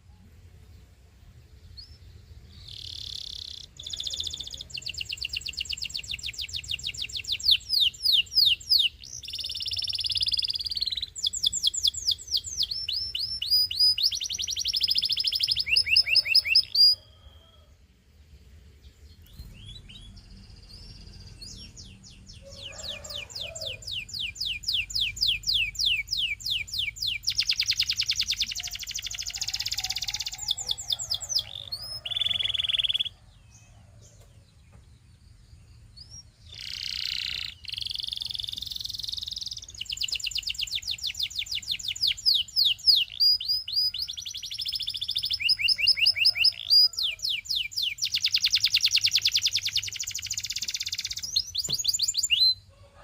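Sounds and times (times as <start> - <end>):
canary singing trills: 1.4 - 17.8, 18.8 - 52.9.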